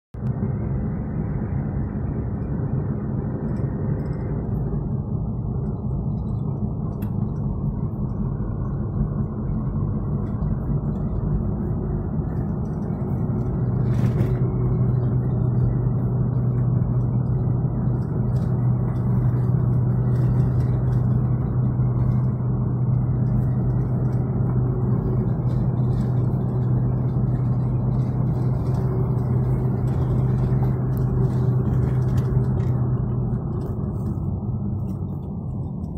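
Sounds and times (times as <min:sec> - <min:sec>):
car engine drone: 0:00.1 - 0:35.9
road noise in car cabin: 0:00.1 - 0:35.9
low steady hum: 0:00.2 - 0:35.9.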